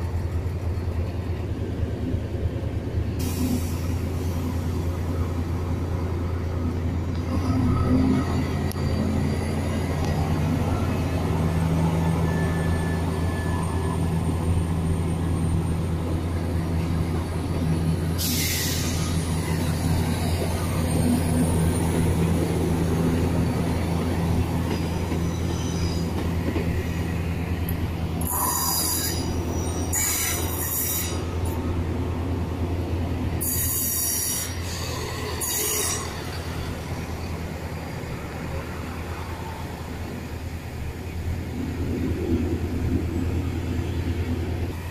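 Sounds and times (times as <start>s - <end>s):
train engines humming: 0.0s - 44.9s.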